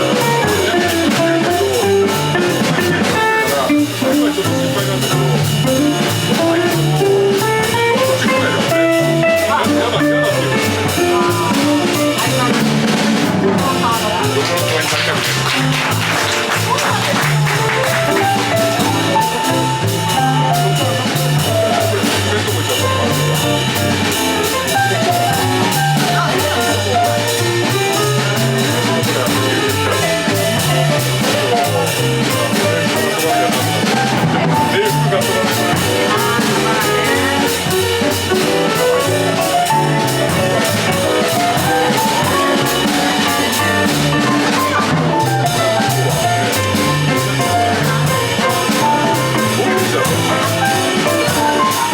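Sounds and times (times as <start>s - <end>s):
bass line: 0.0s - 51.9s
drum kit: 0.0s - 51.9s
jazz band playing: 0.0s - 51.9s.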